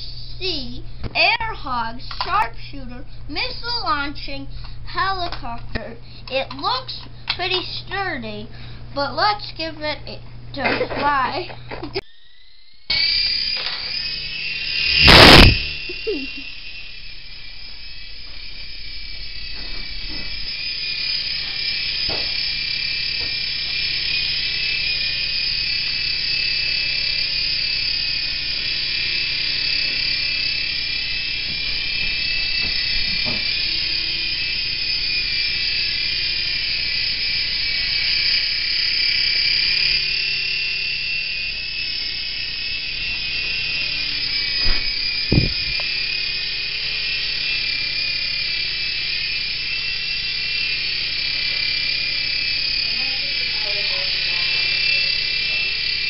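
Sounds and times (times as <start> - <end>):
toy helicopter motor whining: 0.0 - 56.0.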